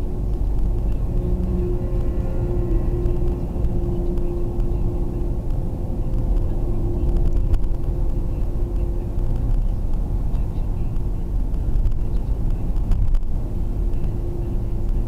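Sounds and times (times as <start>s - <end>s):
car engine and road rumble: 0.0s - 15.0s
constant hum: 0.0s - 15.0s.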